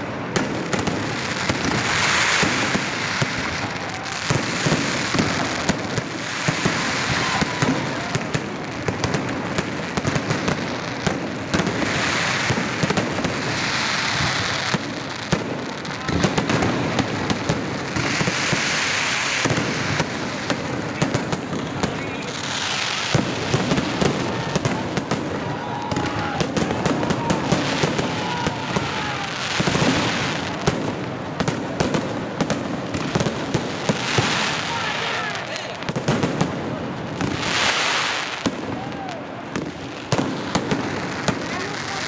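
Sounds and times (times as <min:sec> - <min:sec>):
crackling hiss of fireworks: 0:00.0 - 0:42.0.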